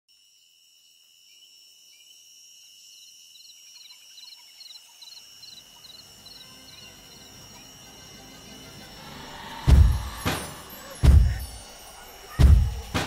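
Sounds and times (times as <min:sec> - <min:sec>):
high insect drone: 0:00.1 - 0:13.0.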